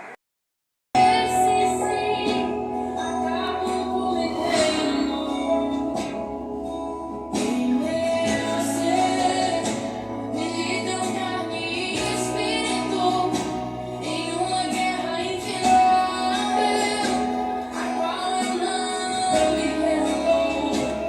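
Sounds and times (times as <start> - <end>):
woman singing worship song: 1.0 - 21.0.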